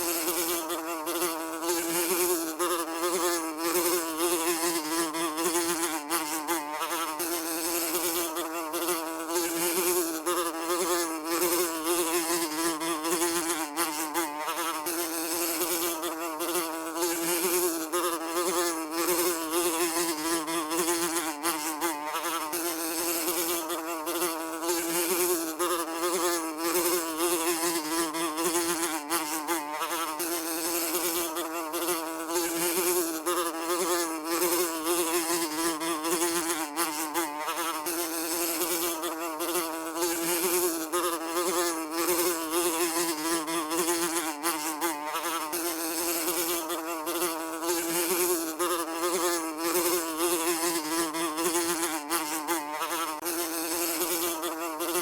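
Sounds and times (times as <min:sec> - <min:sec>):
fly buzzing: 0:00.0 - 0:55.0.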